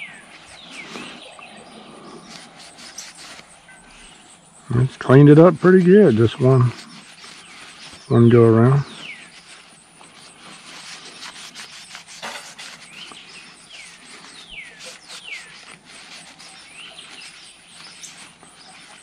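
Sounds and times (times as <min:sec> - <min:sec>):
paper towel rubbing metal: 0:00.0 - 0:04.1, 0:05.0 - 0:19.0
birds chirping: 0:00.0 - 0:19.0.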